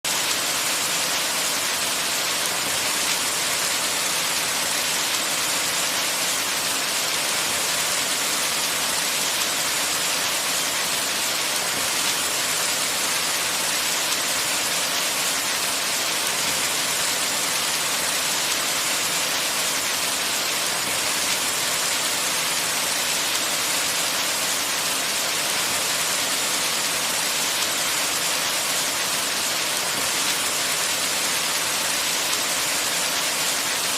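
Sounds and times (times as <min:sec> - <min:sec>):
rain on a window: 0:00.1 - 0:33.9.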